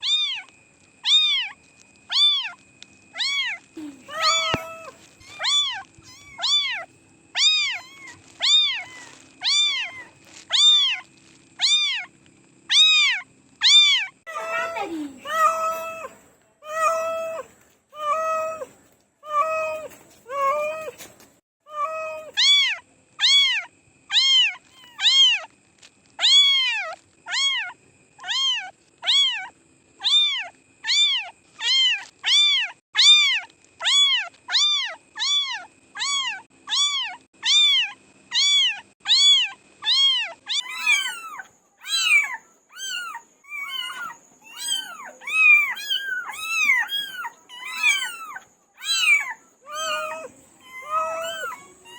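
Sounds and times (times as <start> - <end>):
cats meowing: 0.0 - 12.1, 12.7 - 25.5, 26.2 - 51.9.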